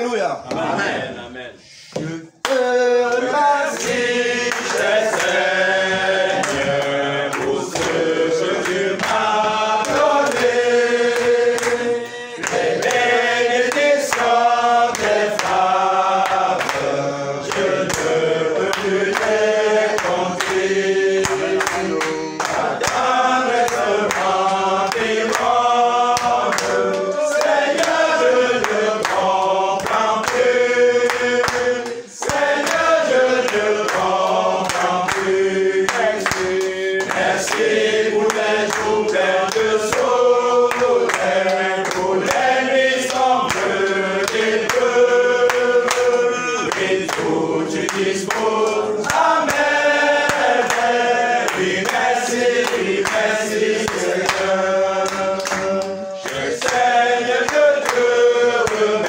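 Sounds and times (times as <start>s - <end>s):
congregation singing a hymn: 1.8s - 59.0s
hand claps: 1.9s - 59.0s.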